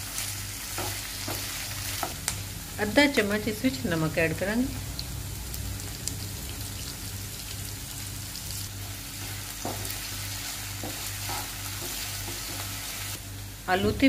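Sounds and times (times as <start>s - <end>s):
potatoes sizzling in oil: 0.0s - 13.6s.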